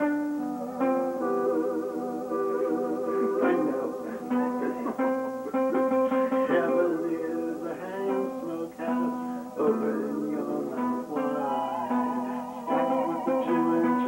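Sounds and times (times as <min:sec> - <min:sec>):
steel guitar sliding notes: 0:00.0 - 0:14.0.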